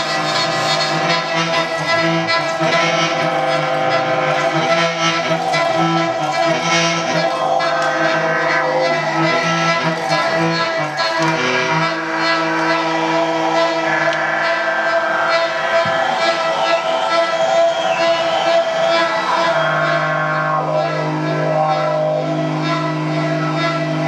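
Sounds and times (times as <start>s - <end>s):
experimental electronic drone music: 0.0s - 24.0s.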